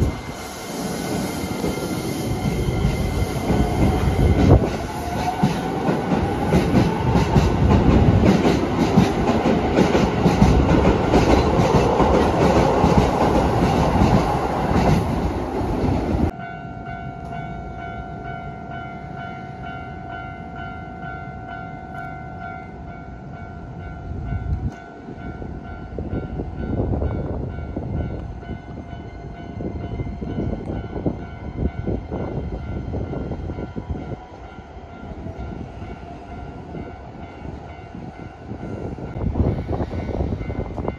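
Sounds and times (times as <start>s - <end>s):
train wheel rumble and clatter: 0.0s - 16.4s, 24.1s - 40.9s.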